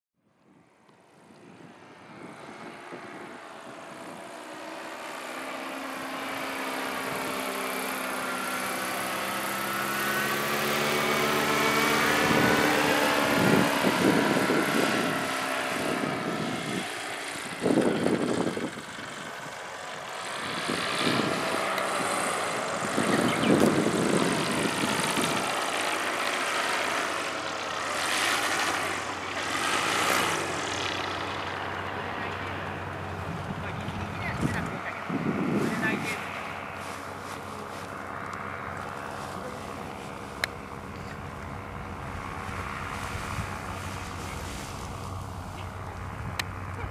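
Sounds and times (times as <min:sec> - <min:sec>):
paramotor engine droning: 0:00.5 - 0:46.9.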